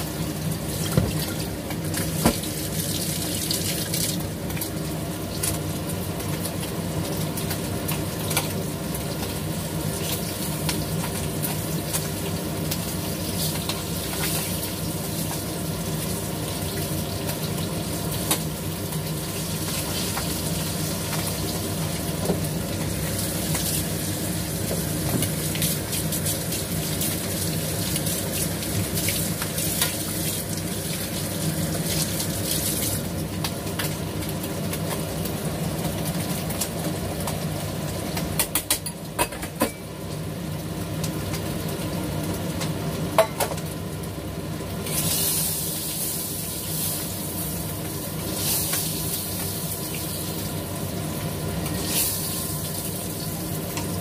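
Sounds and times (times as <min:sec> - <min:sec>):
fish sizzling in hot oil: 0:00.0 - 0:54.0.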